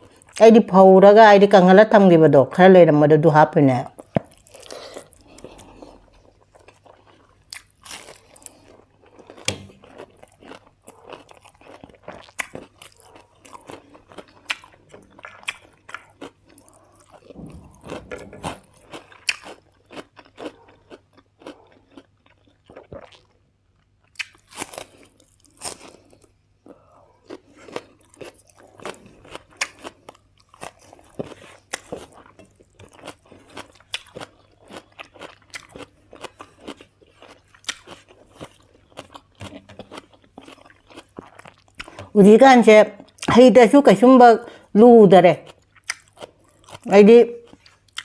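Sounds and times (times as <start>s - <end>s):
person chewing crunchy food: 3.9s - 42.2s, 45.5s - 48.0s.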